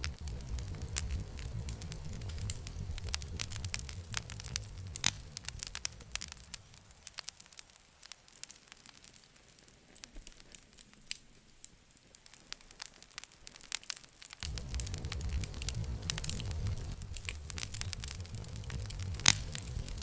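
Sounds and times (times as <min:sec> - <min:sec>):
campfire crackling and popping: 0:00.0 - 0:20.0
low rumble of flame: 0:00.0 - 0:20.0.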